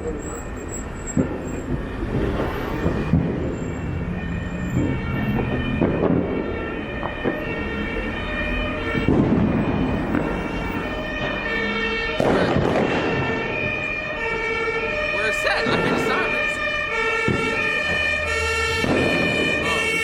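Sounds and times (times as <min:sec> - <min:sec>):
emergency vehicle siren: 0:00.0 - 0:20.0
street din: 0:00.0 - 0:20.0
firecrackers banging: 0:00.6 - 0:14.4, 0:15.2 - 0:20.0.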